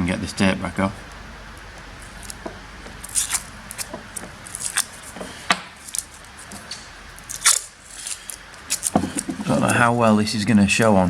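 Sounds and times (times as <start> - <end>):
tape peeling crackles: 1.0 - 9.9.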